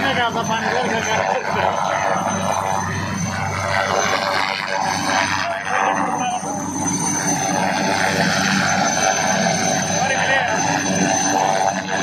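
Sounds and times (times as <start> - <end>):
helicopter turbine and rotor: 0.0 - 12.0
high turbine whine: 0.0 - 12.0.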